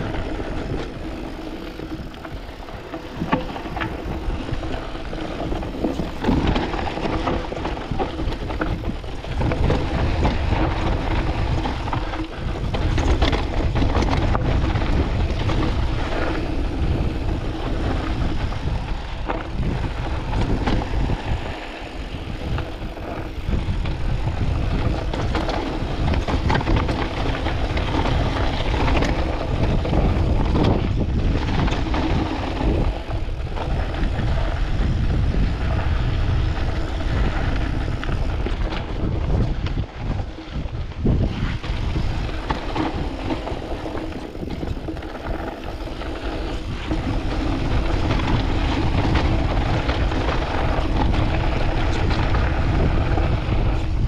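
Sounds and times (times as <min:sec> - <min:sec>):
bike rattling and knocking: 0:00.0 - 0:54.0
tyres rolling over dirt and stones: 0:00.0 - 0:54.0
wind rumble on microphone: 0:00.0 - 0:54.0.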